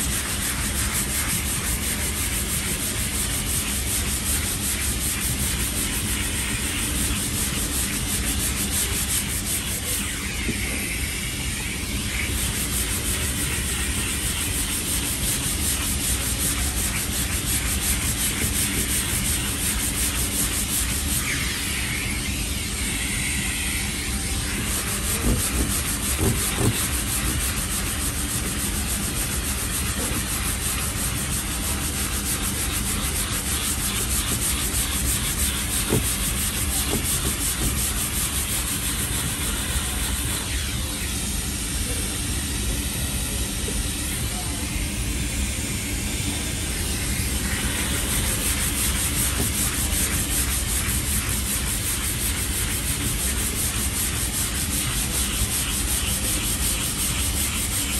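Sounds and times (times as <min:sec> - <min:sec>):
sandpaper rasping on filler: 0:00.0 - 0:42.0, 0:43.0 - 0:57.9.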